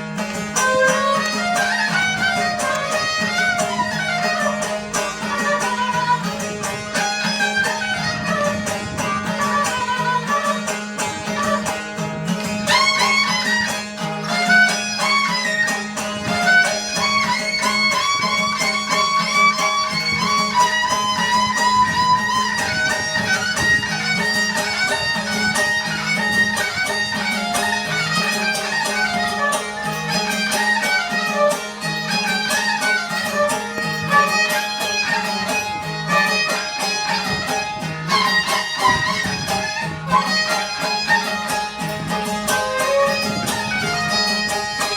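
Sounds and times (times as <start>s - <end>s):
bowed string melody: 0.0s - 44.9s.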